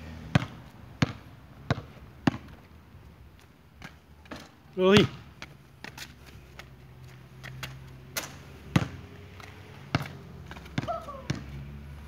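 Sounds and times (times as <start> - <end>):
basketball bouncing on concrete: 0.2 - 2.6, 3.8 - 11.6.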